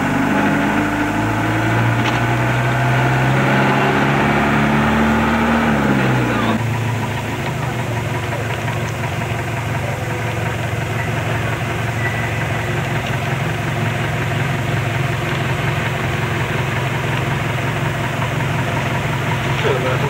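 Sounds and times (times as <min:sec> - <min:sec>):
vehicle engine drone and road noise: 0:00.0 - 0:20.0.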